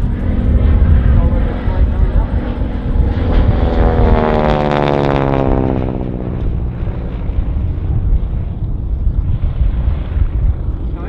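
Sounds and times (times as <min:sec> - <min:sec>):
propeller plane passing overhead: 0:00.0 - 0:11.0.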